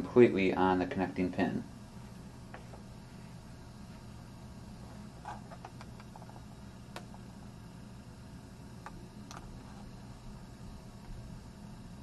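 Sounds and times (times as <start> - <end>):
faint low hum and hiss: 0.0 - 12.0.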